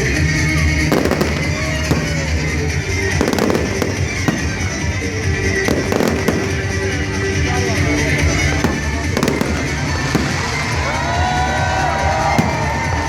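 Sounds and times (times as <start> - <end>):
fireworks bangs: 0.0 - 13.0
loud music: 0.0 - 13.0.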